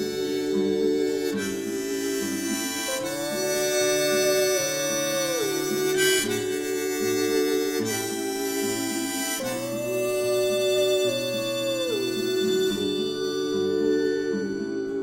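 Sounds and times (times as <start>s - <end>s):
harmonica melody: 0.0s - 15.0s.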